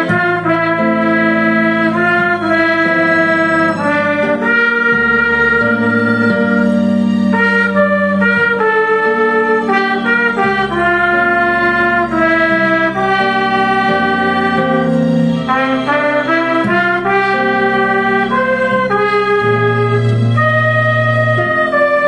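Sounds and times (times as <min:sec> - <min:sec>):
low bass accompaniment: 0:00.0 - 0:22.0
trumpet playing slow melody: 0:00.0 - 0:22.0.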